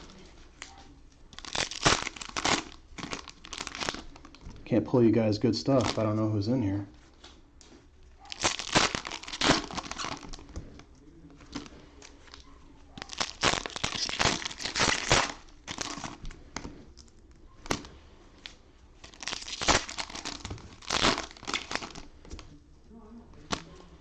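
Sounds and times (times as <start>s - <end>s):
cellophane crinkling and tearing: 0.0s - 4.6s, 5.5s - 7.2s, 8.0s - 24.0s.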